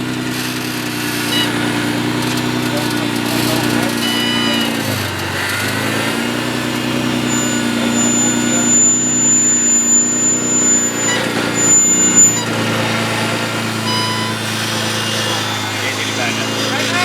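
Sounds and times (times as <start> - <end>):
truck engine revving: 0.0 - 17.0
thin high whine: 0.3 - 17.0.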